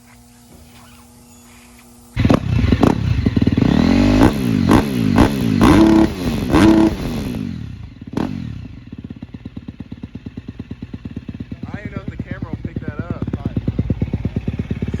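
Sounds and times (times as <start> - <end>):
motorcycle engine idling: 0.0 - 15.0
motorcycle engine revving: 0.0 - 15.0.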